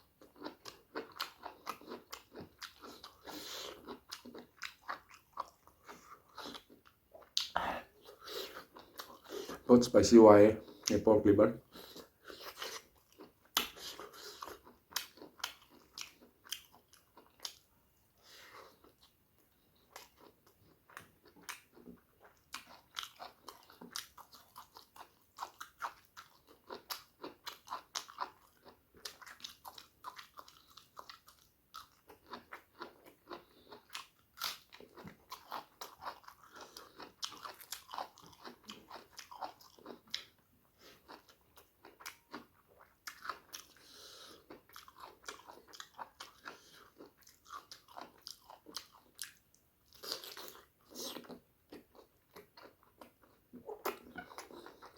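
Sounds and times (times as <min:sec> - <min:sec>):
chewing and biting food: 0:00.1 - 0:09.7, 0:11.6 - 0:54.9.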